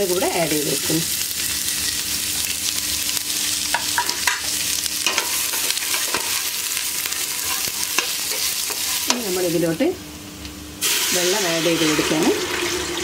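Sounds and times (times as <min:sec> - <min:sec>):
vegetables sizzling in hot oil: 0:00.0 - 0:10.0, 0:10.8 - 0:13.0.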